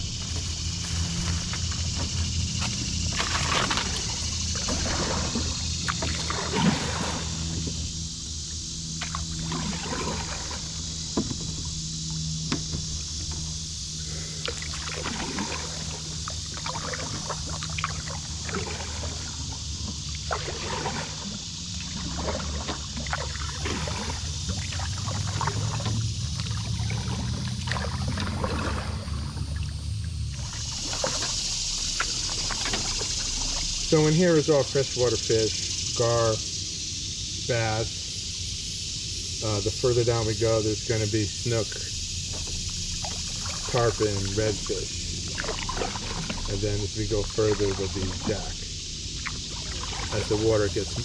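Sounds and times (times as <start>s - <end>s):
paddle splashing water: 0.0s - 36.6s, 38.9s - 51.0s
steady low hum: 0.0s - 51.0s.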